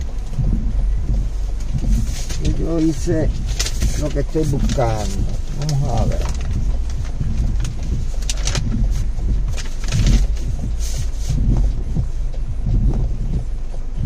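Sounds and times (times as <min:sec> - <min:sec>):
bumps: 0:00.0 - 0:14.0
vehicle low rumble: 0:00.0 - 0:14.0.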